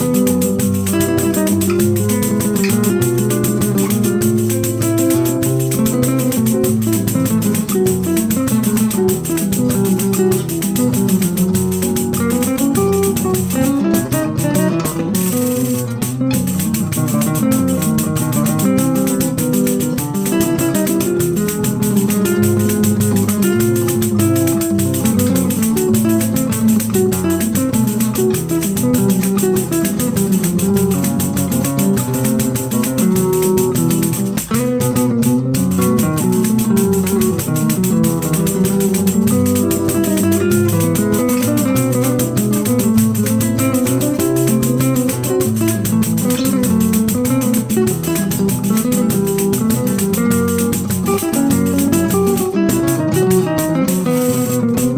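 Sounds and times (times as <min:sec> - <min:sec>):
acoustic guitars playing samba: 0:00.0 - 0:54.9.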